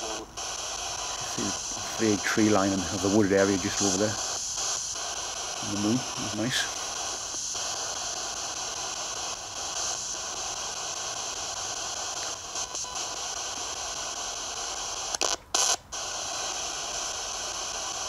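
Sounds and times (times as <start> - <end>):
white noise hiss: 0.0 - 18.0.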